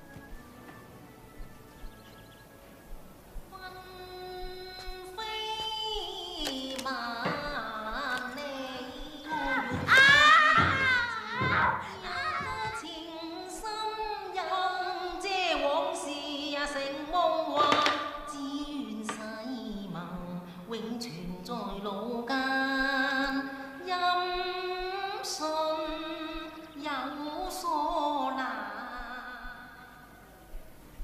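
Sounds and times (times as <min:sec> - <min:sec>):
person singing with vibrato: 0:03.3 - 0:30.8.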